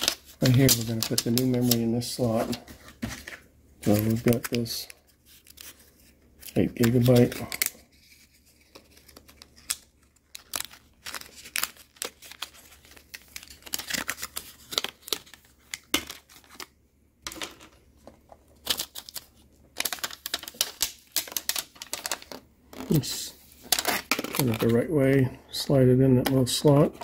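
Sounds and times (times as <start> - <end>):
plastic packaging crinkling: 0.0 - 16.7, 18.5 - 25.2.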